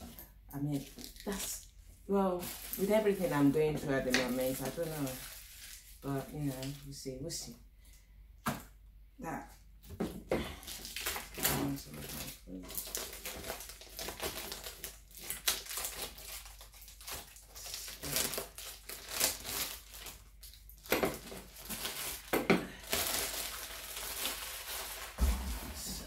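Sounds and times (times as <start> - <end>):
plastic packaging crinkling: 0.7 - 7.0, 10.6 - 26.0.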